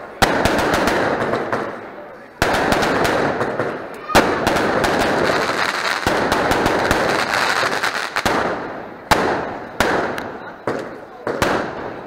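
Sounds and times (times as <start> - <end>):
fireworks bangs with echo: 0.0 - 12.0
fireworks crackling pops: 0.0 - 12.0.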